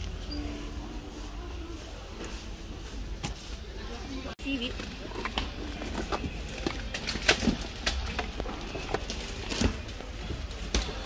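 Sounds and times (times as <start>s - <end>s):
store ambience hum: 0.0s - 11.0s.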